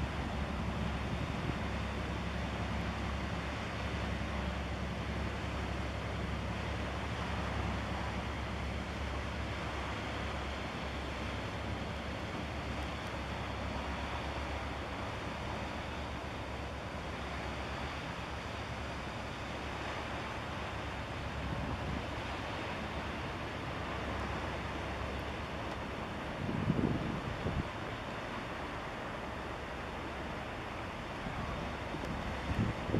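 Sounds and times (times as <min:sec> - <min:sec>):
ship engine drone: 0:00.0 - 0:32.9
wind and sea hiss: 0:00.0 - 0:32.9.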